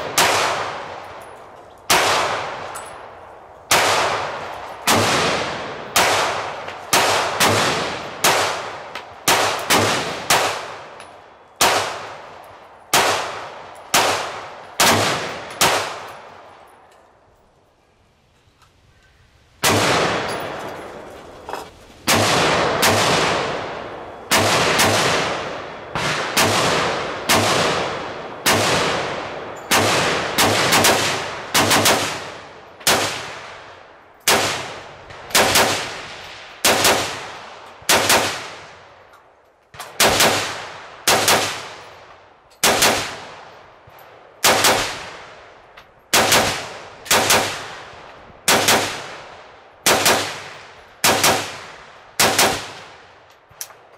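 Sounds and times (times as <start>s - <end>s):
gunshots with echoing decay: 0.0s - 16.8s, 19.6s - 39.0s, 39.7s - 53.9s.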